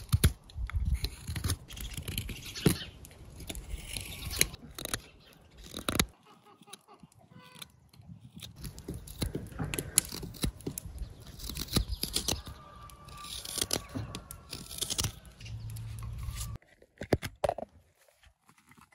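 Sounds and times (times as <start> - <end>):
knife scraping wood: 0.0 - 18.9.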